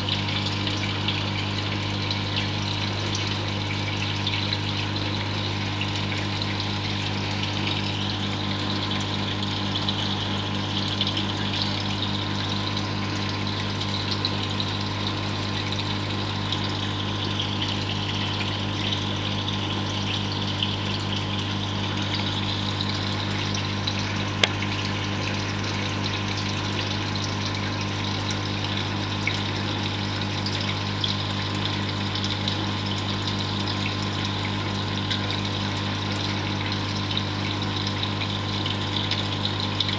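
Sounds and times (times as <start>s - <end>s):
aquarium pump hum: 0.0s - 39.9s
water circulating: 0.0s - 39.9s.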